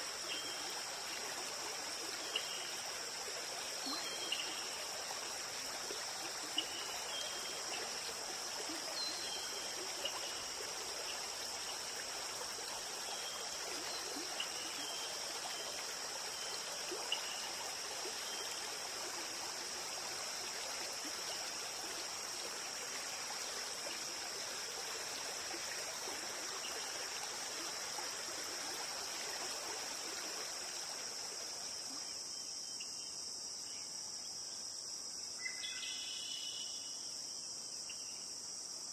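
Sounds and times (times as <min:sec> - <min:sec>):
running water rush: 0:00.0 - 0:32.1
insect drone: 0:00.0 - 0:38.9.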